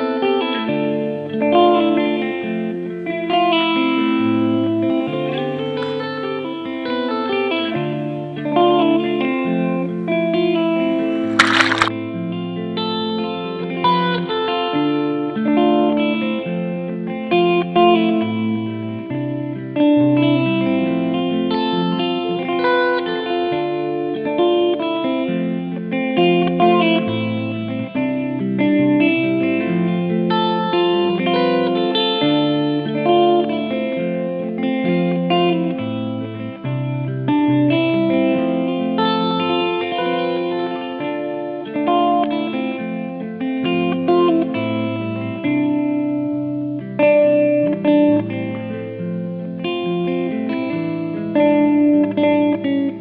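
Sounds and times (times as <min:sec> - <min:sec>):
guitar melody over chords: 0:00.0 - 0:53.0.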